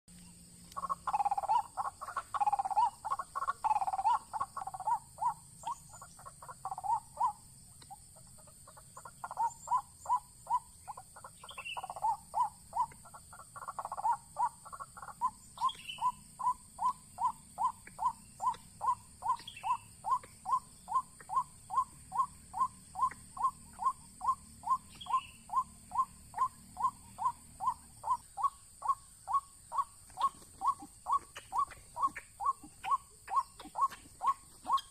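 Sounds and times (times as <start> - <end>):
waterhen calling: 0.7 - 34.9.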